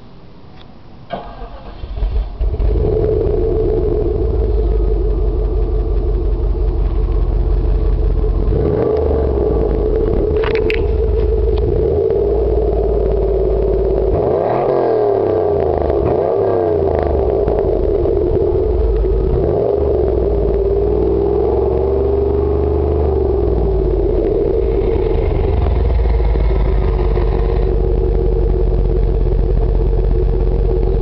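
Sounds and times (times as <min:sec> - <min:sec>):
car engine idling: 0:01.1 - 0:31.0
car engine starting: 0:01.1 - 0:31.0
car engine revving: 0:01.6 - 0:31.0.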